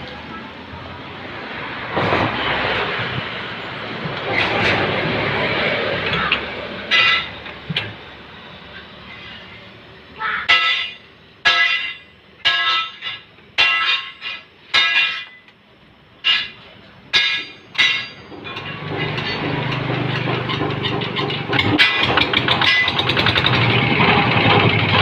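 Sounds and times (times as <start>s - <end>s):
diesel engine running: 0.0s - 12.5s, 15.7s - 25.0s.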